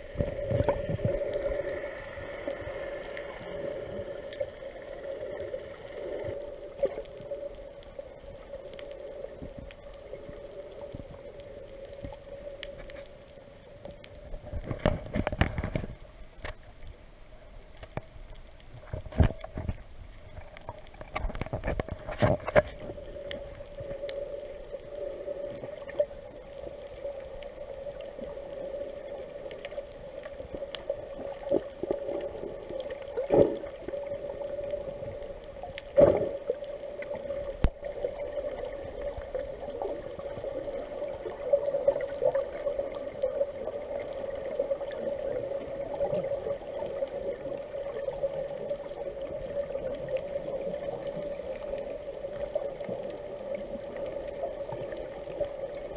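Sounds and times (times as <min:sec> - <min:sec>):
water sloshing and gurgling: 0:00.0 - 0:13.4, 0:14.0 - 0:16.8, 0:17.7 - 0:55.9.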